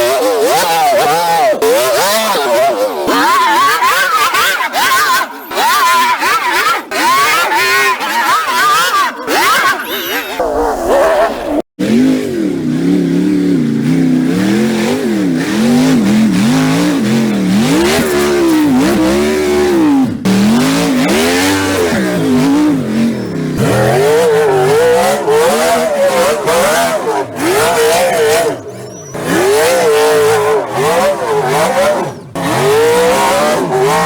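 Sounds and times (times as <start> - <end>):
off-road engines revving hard: 0.0 - 34.0.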